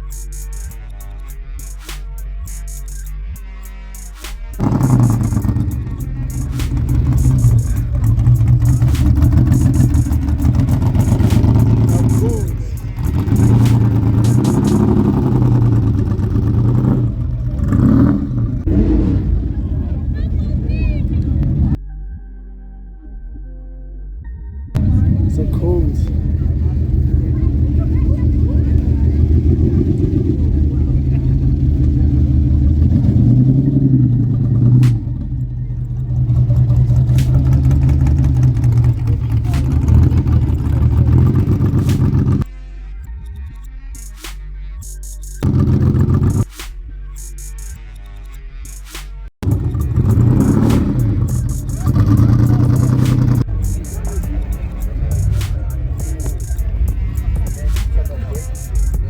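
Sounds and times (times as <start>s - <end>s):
car engine idling: 0.0s - 21.8s, 24.8s - 42.5s, 45.2s - 46.6s, 49.4s - 59.0s.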